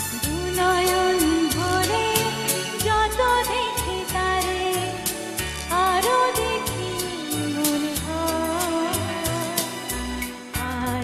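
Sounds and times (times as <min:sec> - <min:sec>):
bass line: 0:00.0 - 0:11.0
woman singing: 0:00.1 - 0:11.0.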